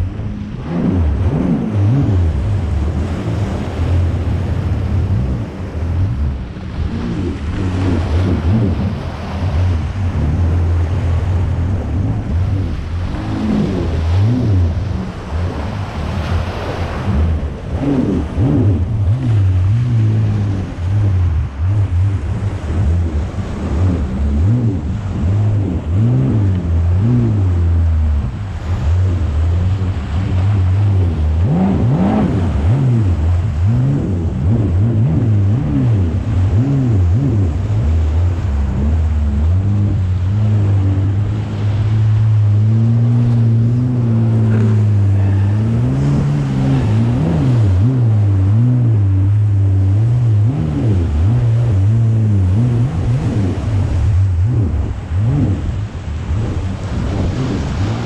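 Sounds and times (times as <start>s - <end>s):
jet ski engine running: 0.0s - 58.0s
water splashing: 0.0s - 58.0s
wind on microphone: 0.0s - 58.0s.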